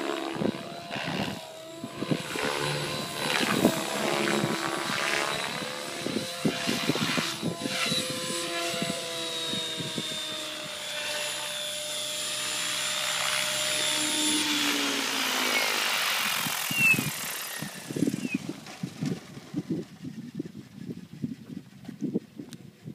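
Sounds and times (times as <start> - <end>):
rotor noise: 0.0 - 19.8
helicopter motor whine: 0.0 - 22.9.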